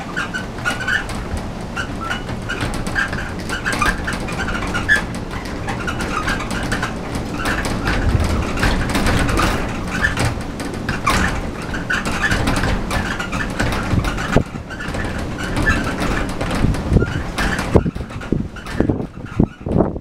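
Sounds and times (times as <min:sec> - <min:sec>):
gusting stormy wind: 0:00.0 - 0:20.0.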